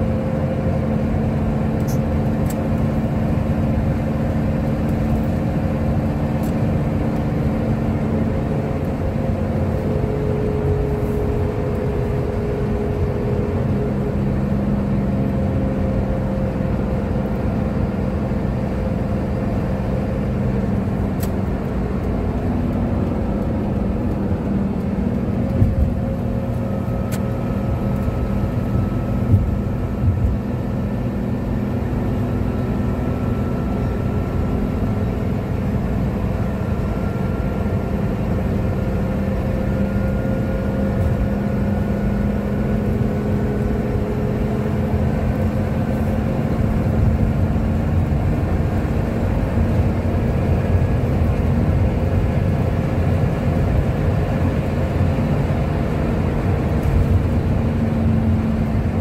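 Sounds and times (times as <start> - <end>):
engine drone: 0.0 - 59.0
road noise: 0.0 - 59.0.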